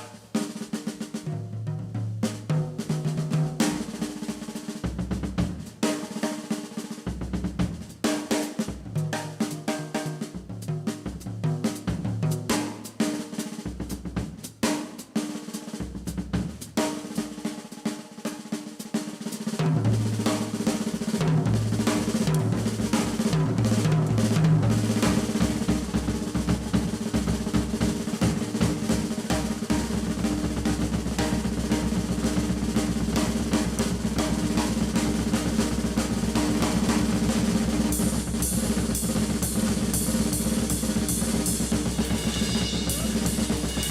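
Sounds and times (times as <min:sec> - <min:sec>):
drum rolls on toms and bass drum: 0:00.0 - 0:43.9
jazz drum kit playing: 0:00.0 - 0:43.9.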